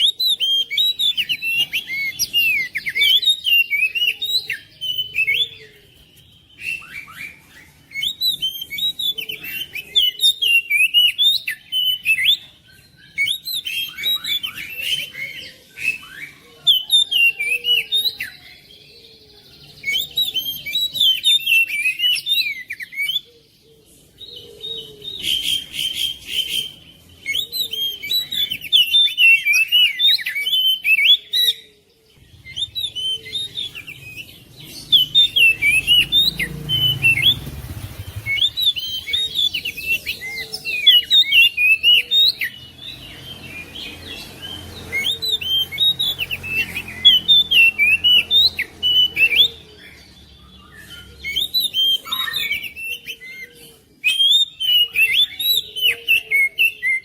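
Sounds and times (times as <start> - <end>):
bird singing whistled song: 0.0 - 23.4, 24.0 - 57.0.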